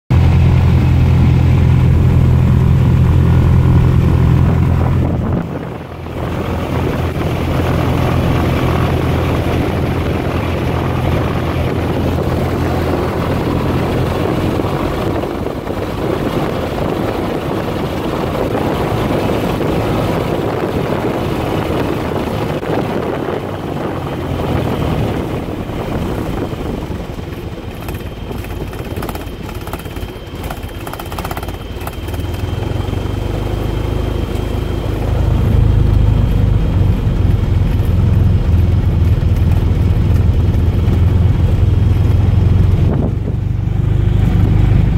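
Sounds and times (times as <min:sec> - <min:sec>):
aircraft propeller engine running: 0:00.0 - 0:44.9.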